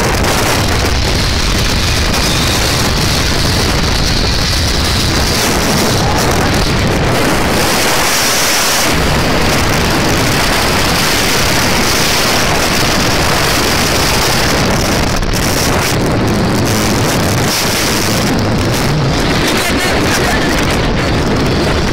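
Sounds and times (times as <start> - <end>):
low rumble: 0.0 - 21.9
wind buffeting microphone: 0.0 - 21.9.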